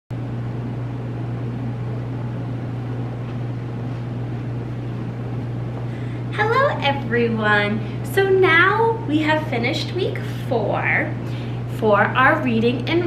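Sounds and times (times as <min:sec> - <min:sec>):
low electrical hum: 0:00.1 - 0:13.0.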